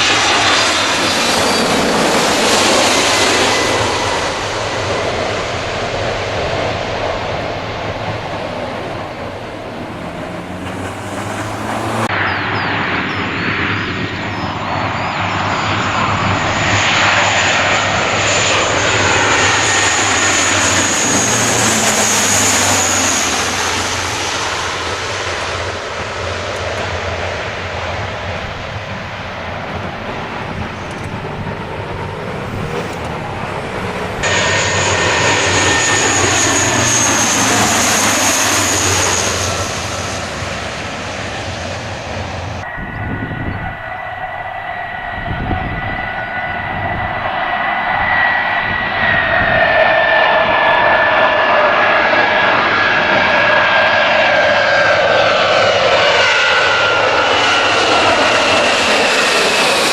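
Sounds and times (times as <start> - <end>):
jet engines passing: 0.0 - 59.9.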